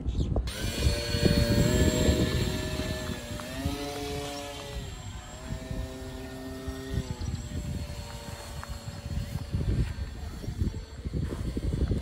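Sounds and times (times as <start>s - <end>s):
electric motor and propeller hum: 0.4s - 12.0s.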